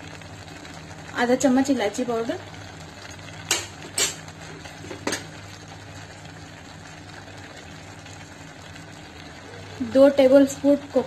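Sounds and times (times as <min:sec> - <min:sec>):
milk bubbling gently: 0:00.0 - 0:11.0.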